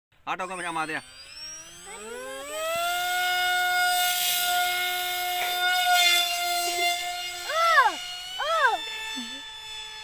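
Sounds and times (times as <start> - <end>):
electric motor whine: 0.3 - 10.0.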